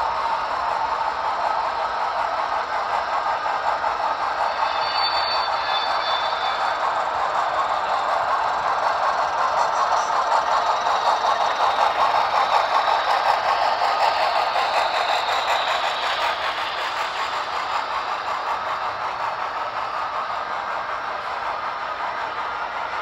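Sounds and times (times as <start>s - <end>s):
model train wheels clattering: 0.0s - 23.0s.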